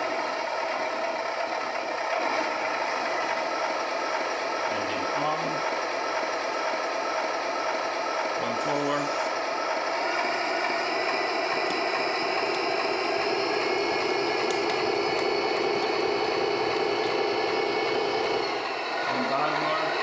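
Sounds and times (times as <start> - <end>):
electric gear motors: 0.0 - 20.0
simulated diesel engine from speaker: 0.0 - 20.0.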